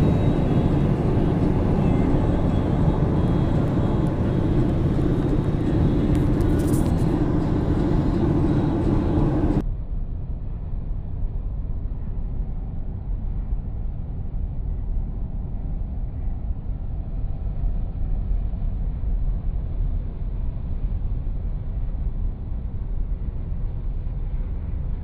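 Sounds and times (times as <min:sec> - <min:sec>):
car engine tyre and wind rumble: 0:00.0 - 0:25.0.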